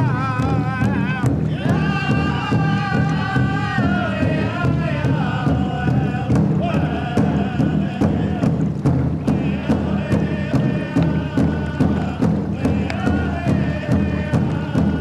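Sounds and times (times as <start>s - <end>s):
person singing: 0.0s - 8.6s, 9.3s - 15.0s
song with steady beat: 0.0s - 15.0s.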